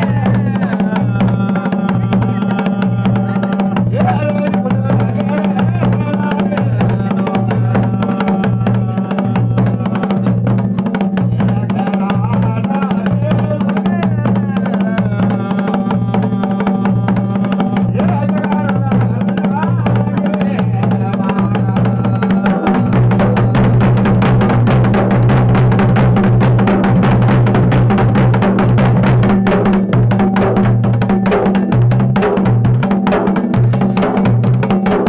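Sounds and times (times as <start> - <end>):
drums playing a rhythm: 0.0 - 35.0.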